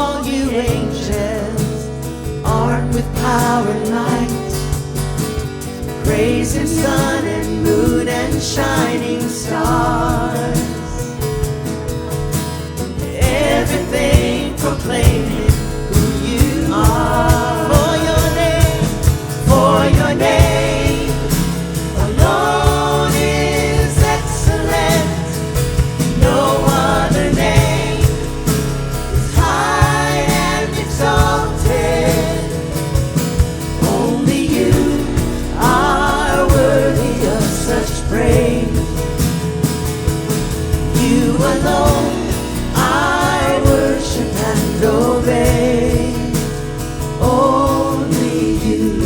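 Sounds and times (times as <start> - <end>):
live worship band music: 0.0 - 49.0.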